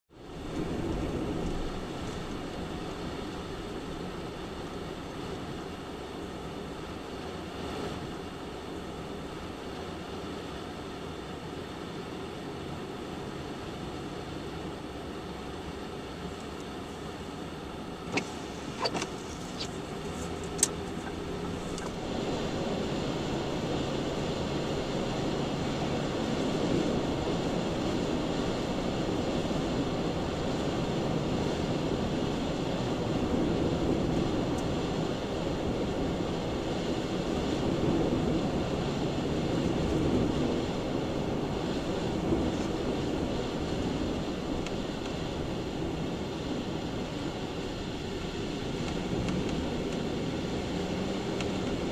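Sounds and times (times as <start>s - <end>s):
wind buffeting a car: 0.1s - 51.9s.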